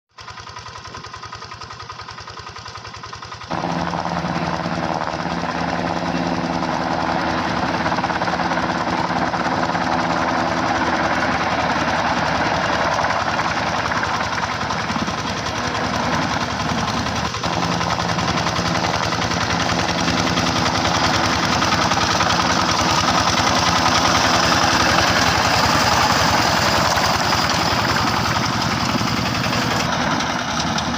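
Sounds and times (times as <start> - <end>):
tractor engine knocking: 0.1 - 30.9.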